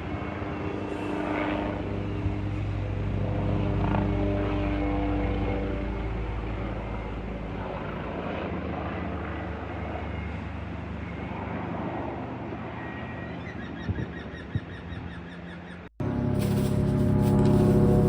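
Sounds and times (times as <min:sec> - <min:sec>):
aircraft engine and airflow: 0:00.0 - 0:18.0.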